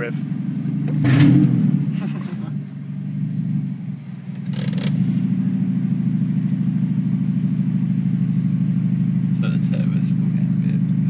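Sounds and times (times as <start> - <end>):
car engine without mufflers: 0.0 - 11.0.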